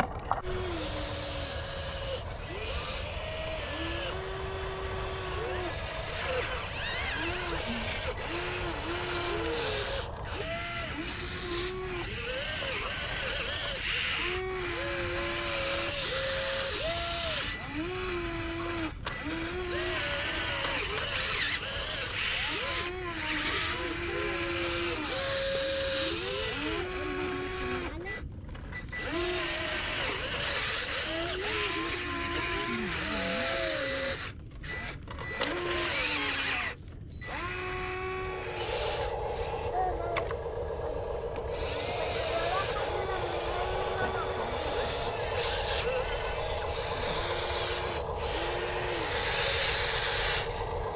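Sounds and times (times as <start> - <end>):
toy excavator motors whining: 0.0 - 50.9.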